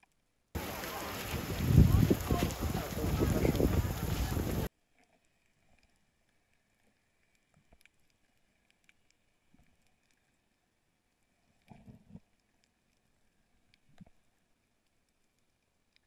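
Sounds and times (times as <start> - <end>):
faint underwater clicks and crackles: 0.0 - 16.0.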